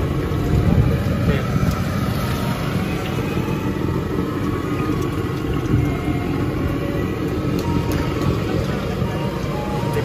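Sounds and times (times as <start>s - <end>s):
motorcycle and car engines: 0.0s - 10.0s.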